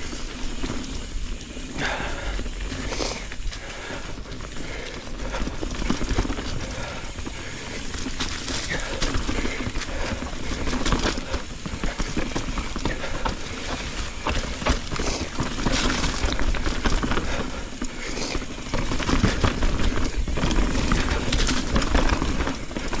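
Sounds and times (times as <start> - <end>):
bike clicks and rattles: 0.0 - 23.0
bike tyres rolling on trail: 0.0 - 23.0.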